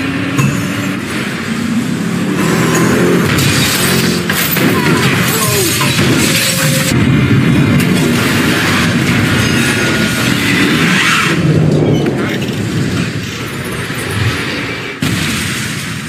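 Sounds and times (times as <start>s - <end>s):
crashes and impacts: 0.2s - 16.0s.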